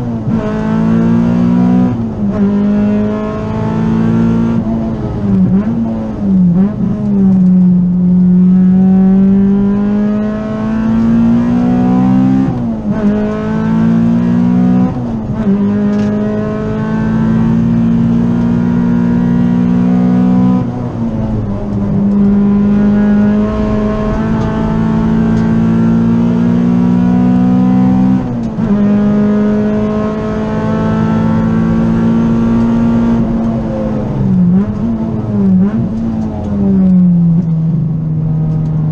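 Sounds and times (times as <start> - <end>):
car engine revving under load: 0.0 - 38.9.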